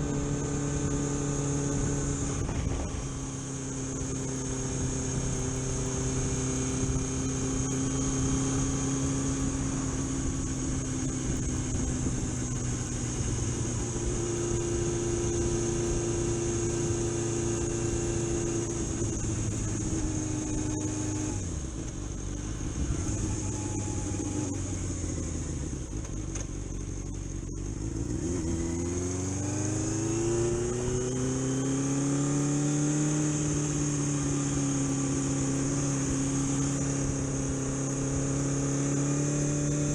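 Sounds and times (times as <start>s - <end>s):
high-pitched whine: 0.0s - 39.9s
vehicle engine accelerating: 0.0s - 39.9s.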